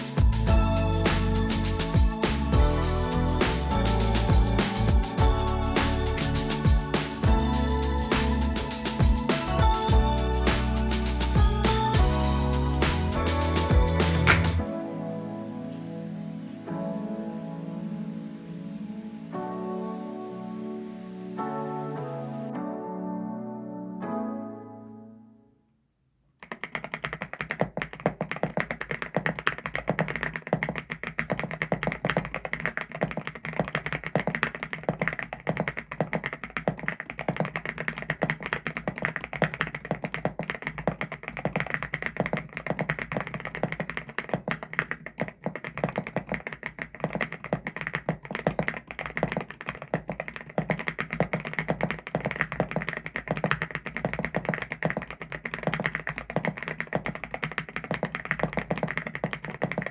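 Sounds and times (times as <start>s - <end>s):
fast mechanical keyboard typing: 0.0s - 14.6s, 26.4s - 59.9s.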